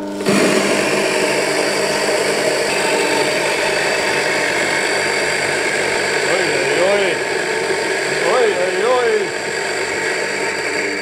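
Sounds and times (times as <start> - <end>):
coffee grinder grinding beans: 0.0 - 11.0.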